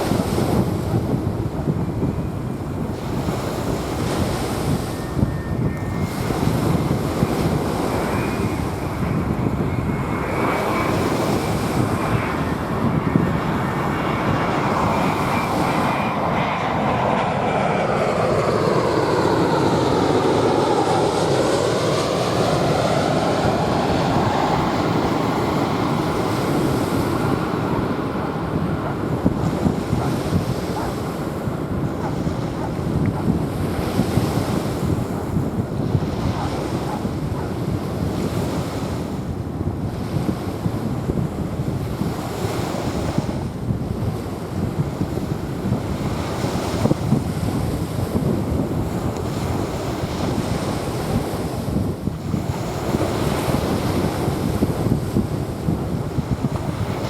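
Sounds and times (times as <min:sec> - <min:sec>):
jet airliner passing overhead: 0:00.0 - 0:57.0
wind buffeting microphone: 0:00.0 - 0:57.0
waves washing on shore: 0:02.6 - 0:40.9, 0:41.8 - 0:57.0.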